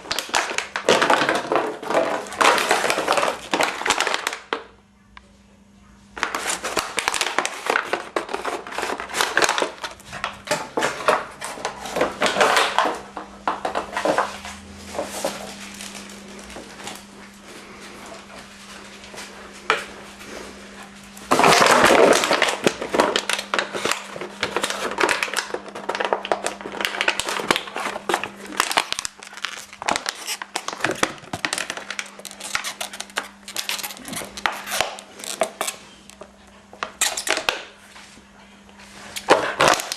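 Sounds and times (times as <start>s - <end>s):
dog chewing plastic bottle: 0.0s - 4.6s, 6.2s - 17.4s, 20.7s - 37.8s, 39.2s - 39.9s
steady low hum: 4.7s - 39.9s.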